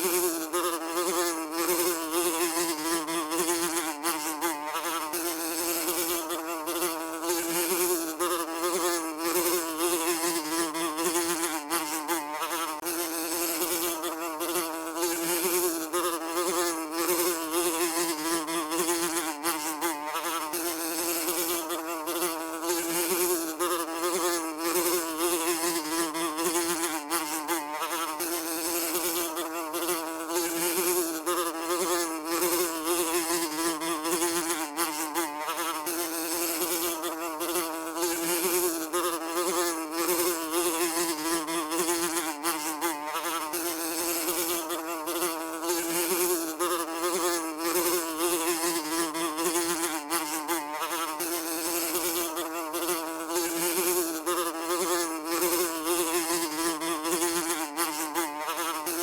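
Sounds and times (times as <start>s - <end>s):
housefly buzzing: 0.0s - 59.0s.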